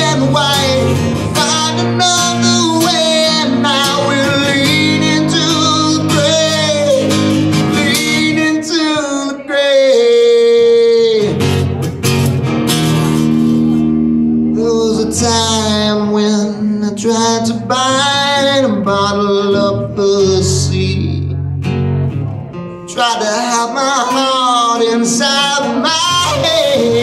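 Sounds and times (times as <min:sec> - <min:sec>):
man singing: 0:00.0 - 0:11.8, 0:14.4 - 0:21.4, 0:22.9 - 0:27.0
strummed acoustic guitar: 0:00.0 - 0:27.0.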